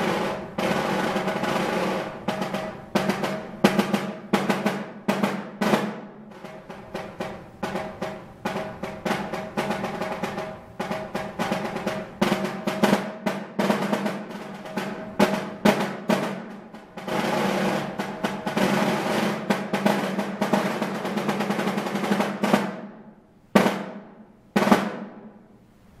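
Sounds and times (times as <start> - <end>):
snare drum strokes and rolls: 0.0 - 25.6.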